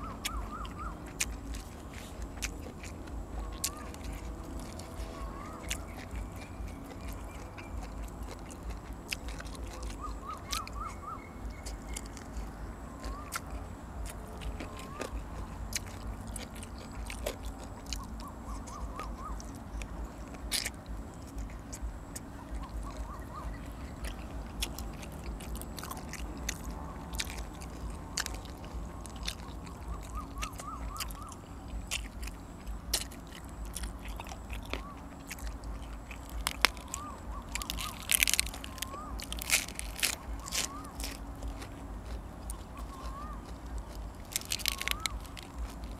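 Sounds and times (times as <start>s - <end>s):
person chewing with wet clicks: 0.0s - 45.9s.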